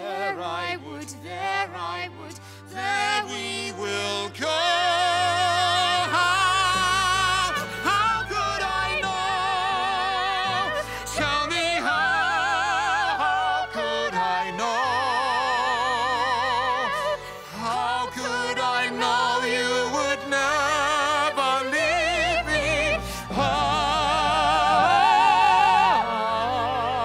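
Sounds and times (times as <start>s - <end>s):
man and woman singing duet: 0.0s - 27.0s
orchestra: 0.0s - 27.0s.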